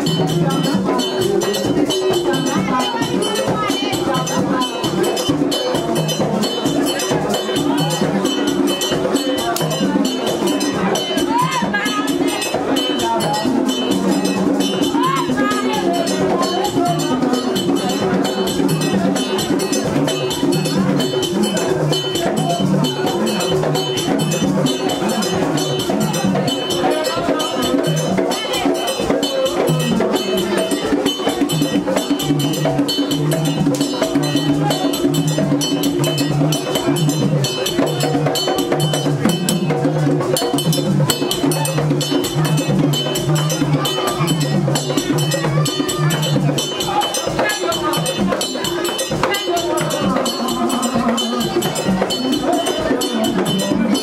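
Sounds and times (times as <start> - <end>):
voices singing: 0.0 - 42.9, 43.5 - 54.0
fast drumming: 0.0 - 54.0
metal bell beating time: 0.0 - 54.0.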